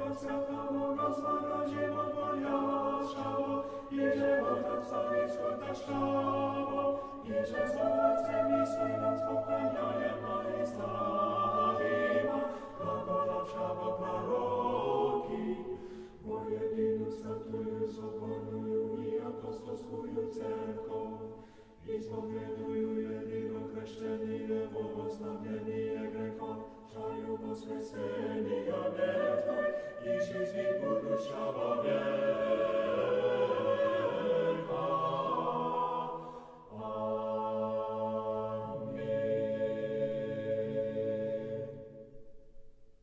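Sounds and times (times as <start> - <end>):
choir singing held chords: 0.0 - 42.4.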